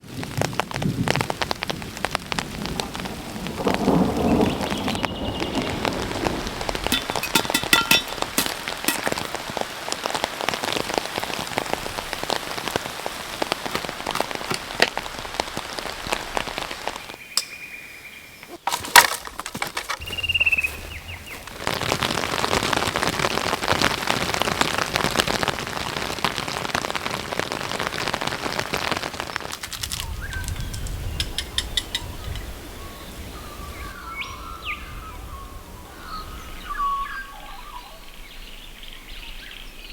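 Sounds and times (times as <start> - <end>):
rain falling: 0.0 - 17.4, 18.2 - 39.9.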